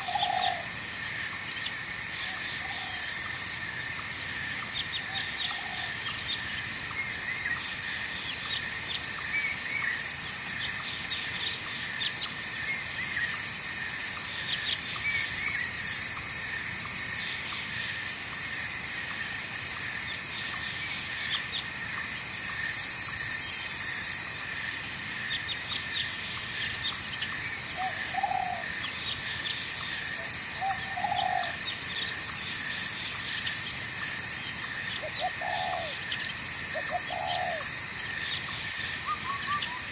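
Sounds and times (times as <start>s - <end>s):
chorus of insects: 0.0s - 39.9s.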